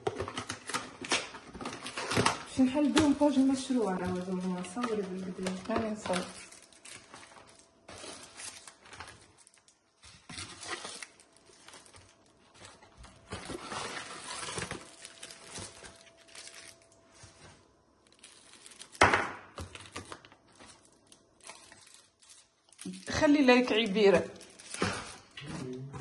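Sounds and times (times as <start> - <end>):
sharp plastic crackle: 0.0 - 25.5
plastic wrappers crinkling: 0.0 - 25.8.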